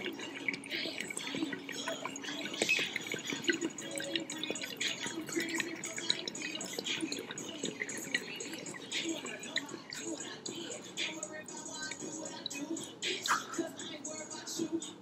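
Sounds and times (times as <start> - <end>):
water bubbling in glass pipe: 0.0 - 13.8.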